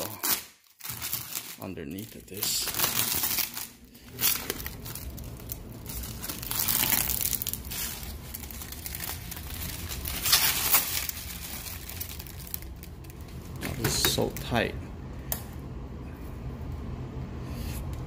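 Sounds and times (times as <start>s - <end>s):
plastic film peeling and crinkling: 0.0s - 14.5s.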